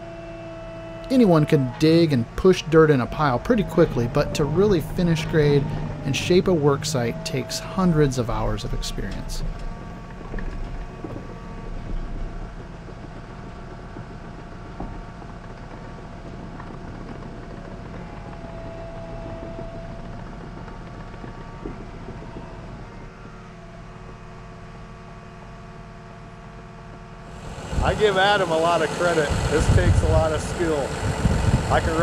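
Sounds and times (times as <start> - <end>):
dozer diesel engine running: 0.0 - 32.0.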